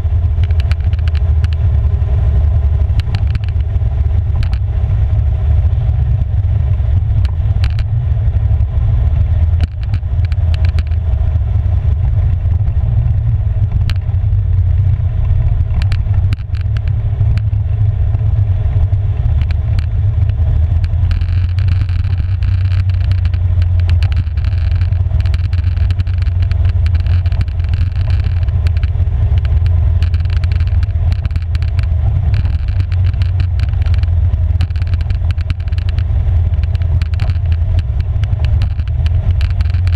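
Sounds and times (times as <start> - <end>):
atv engine running: 0.0 - 39.9
gravel clicks and knocks: 0.1 - 1.8, 2.6 - 4.7, 9.3 - 39.9.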